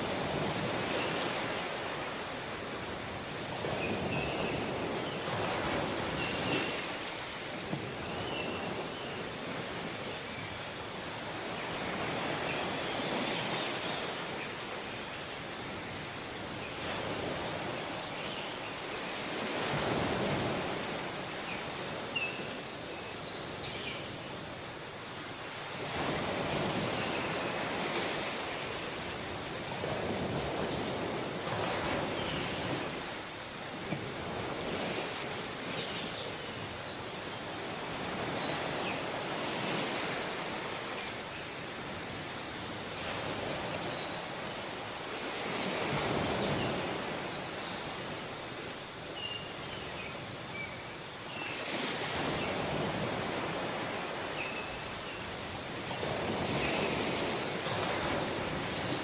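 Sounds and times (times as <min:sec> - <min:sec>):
sea waves breaking on beach: 0:00.0 - 0:22.7, 0:24.4 - 0:59.0.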